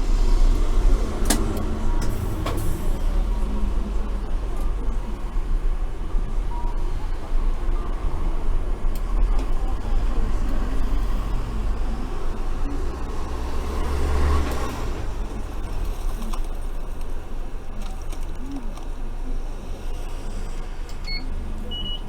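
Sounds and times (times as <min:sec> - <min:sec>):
tram motors and wheels on rails: 0:00.0 - 0:22.0.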